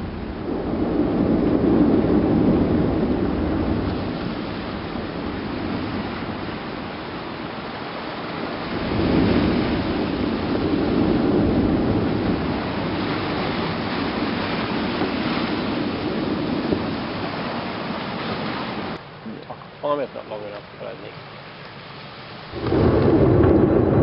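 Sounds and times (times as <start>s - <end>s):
volcano eruption rumble: 0.0s - 19.0s, 22.5s - 24.0s.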